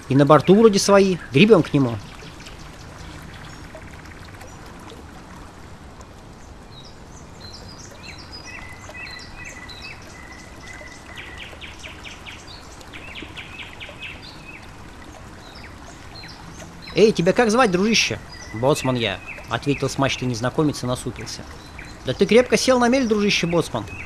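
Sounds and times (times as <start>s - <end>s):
small birds chirping: 0.0s - 5.0s, 6.4s - 24.0s
running water rushing: 0.0s - 24.0s.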